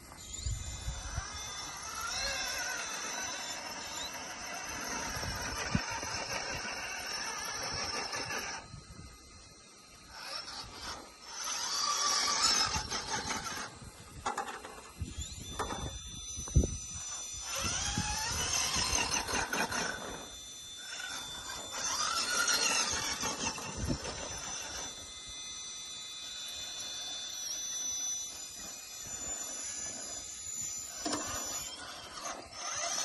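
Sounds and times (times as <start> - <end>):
toy car motor whining: 0.0 - 33.0.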